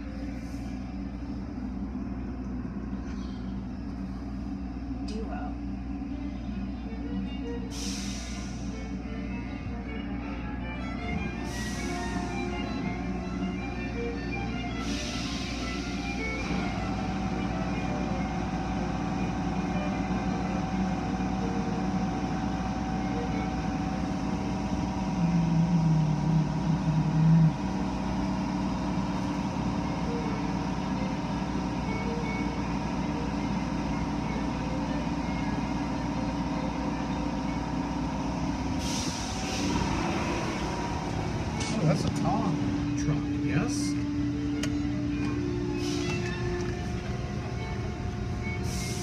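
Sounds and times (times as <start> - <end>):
car wash machinery humming: 0.0 - 49.0
low drone: 0.0 - 49.0.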